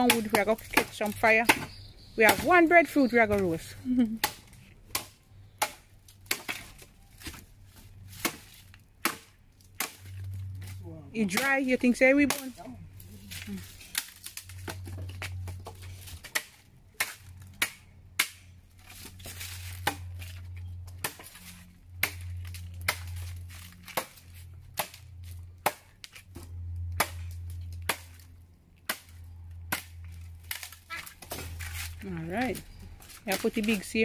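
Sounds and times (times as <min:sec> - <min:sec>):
wood chopping strikes: 0:00.0 - 0:07.4, 0:08.1 - 0:12.6, 0:13.3 - 0:33.9.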